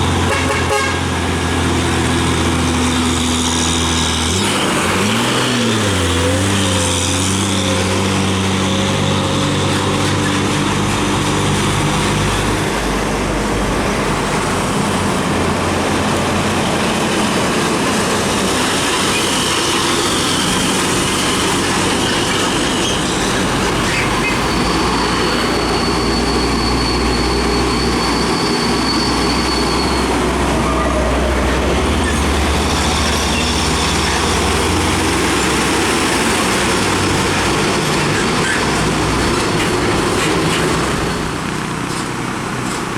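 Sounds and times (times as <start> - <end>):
diesel trucks rumbling: 0.0 - 42.9.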